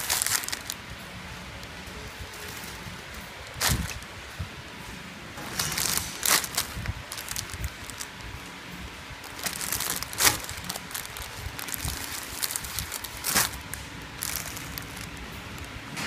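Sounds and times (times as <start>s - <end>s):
plastic film crinkling: 0.0s - 0.9s, 1.6s - 4.1s, 5.4s - 8.6s, 9.2s - 16.0s
faint steady hum: 0.0s - 16.0s.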